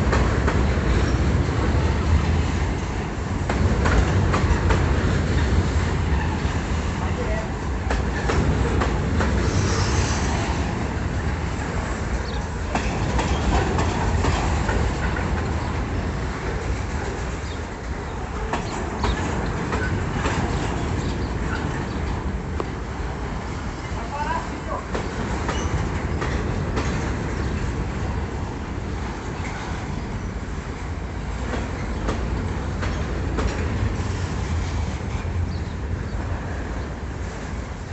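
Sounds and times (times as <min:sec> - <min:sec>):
freight train rumbling past: 0:00.0 - 0:37.9
wheels clacking over rail joints: 0:00.0 - 0:37.9.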